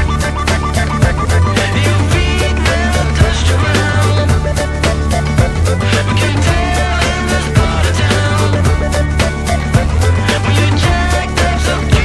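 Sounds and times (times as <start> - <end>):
upbeat music with bass: 0.0 - 12.0.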